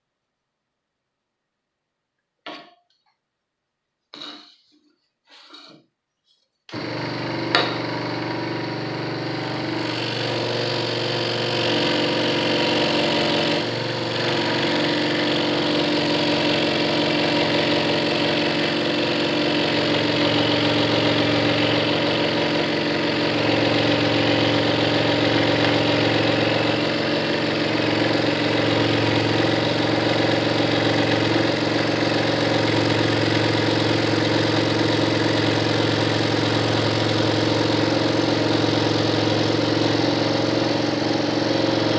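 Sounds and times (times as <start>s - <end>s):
scroll saw motor hum: 6.7s - 41.9s.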